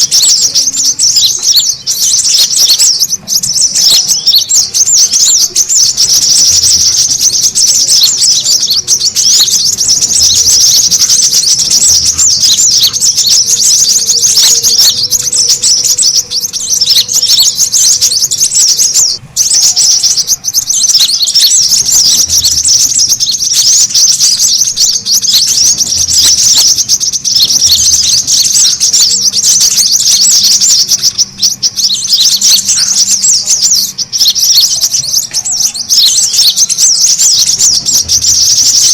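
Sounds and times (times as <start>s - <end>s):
birds twittering chirps: 0.0s - 38.9s.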